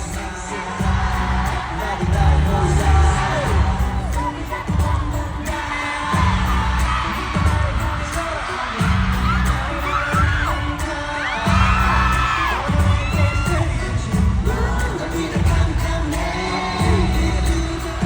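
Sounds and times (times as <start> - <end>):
heavy bass beat: 0.0 - 18.0
person singing: 0.0 - 18.0
pop song over sound system: 0.0 - 18.0.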